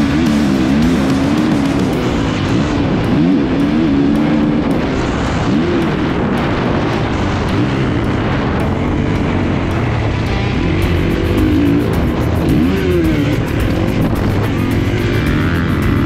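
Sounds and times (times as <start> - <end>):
motorcycle engine revving: 0.0 - 16.0
wind noise on microphone: 0.0 - 16.0.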